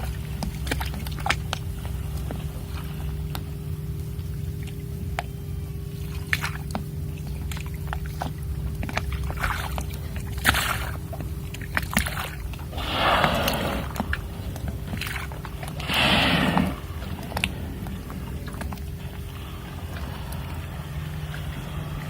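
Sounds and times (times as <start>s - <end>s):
steady low hum: 0.0s - 22.0s
water slapping boat hull: 0.0s - 22.0s.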